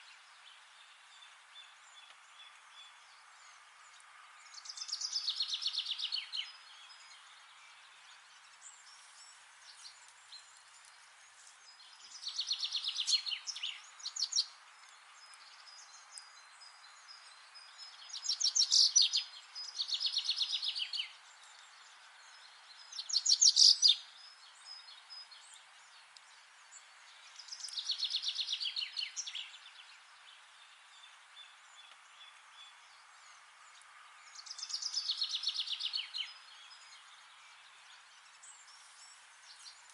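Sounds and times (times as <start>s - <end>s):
faint hiss: 0.0s - 39.9s
songbird singing: 0.0s - 39.9s.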